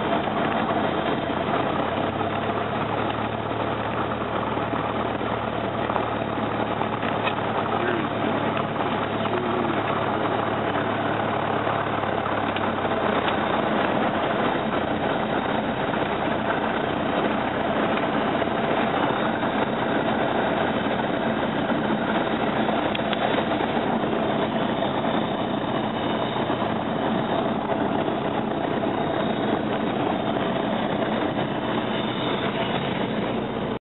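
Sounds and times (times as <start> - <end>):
low hum: 0.0 - 33.8
piston engine and propeller running: 0.0 - 33.8.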